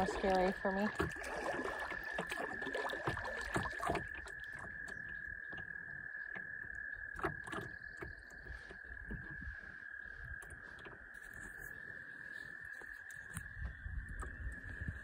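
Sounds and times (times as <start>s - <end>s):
paddle strokes splashing: 0.0s - 15.0s
water sloshing: 0.0s - 15.0s.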